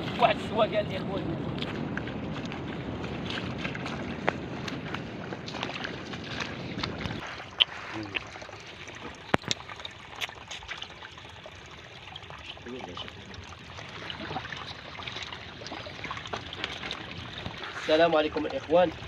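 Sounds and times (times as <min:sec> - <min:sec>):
water at the shore: 0:00.0 - 0:19.0
wind rumbling on microphone: 0:00.0 - 0:19.0.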